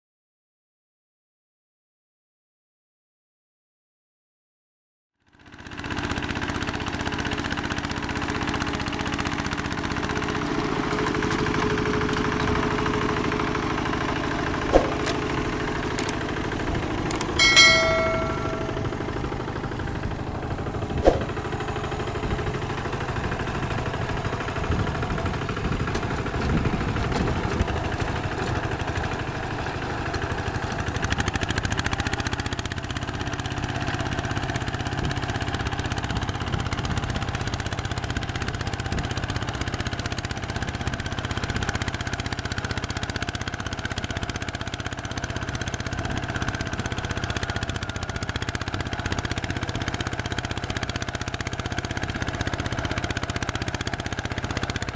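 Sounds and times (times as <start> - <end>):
diesel tiller engine running: 5.4 - 54.9.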